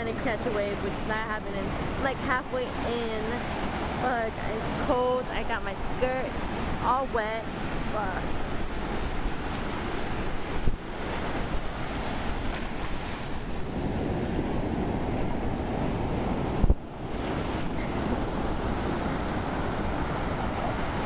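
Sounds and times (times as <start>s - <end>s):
ocean surf washing in: 0.0s - 21.0s
wind buffeting microphone: 0.0s - 21.0s.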